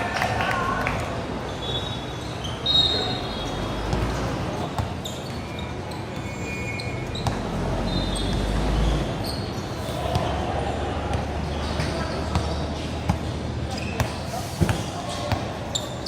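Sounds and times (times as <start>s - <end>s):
sneakers squeaking on floor: 1.4s - 10.4s, 11.1s - 16.0s.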